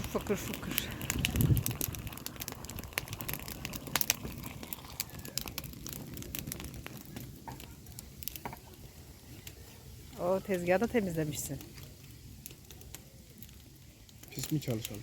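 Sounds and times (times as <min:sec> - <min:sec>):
food cooking over wood fire: 0:00.0 - 0:15.0.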